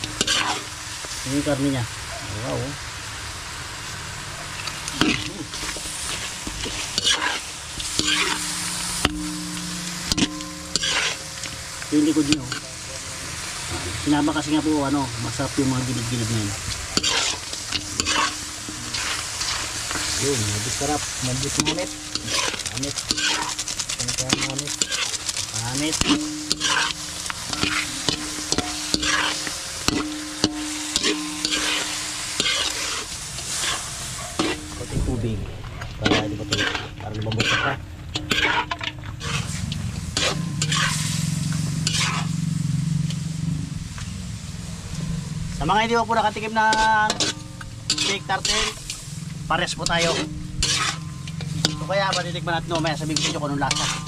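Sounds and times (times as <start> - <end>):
metal spatula scraping a pan: 0.0 - 1.6, 4.5 - 43.4, 44.9 - 54.0
meat sizzling in a wok: 0.0 - 54.0.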